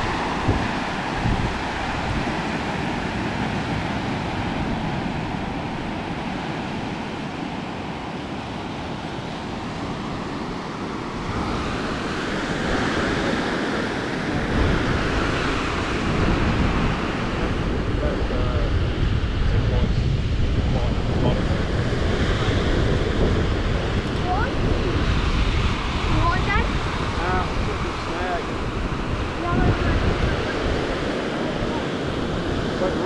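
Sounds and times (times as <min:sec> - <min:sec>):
ocean surf on a beach: 0:00.0 - 0:33.0
wind buffeting microphone: 0:00.0 - 0:33.0.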